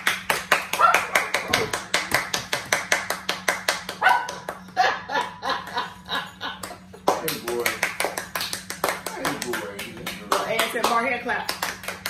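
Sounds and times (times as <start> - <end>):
people clapping fast: 0.0 - 5.9, 6.6 - 12.0.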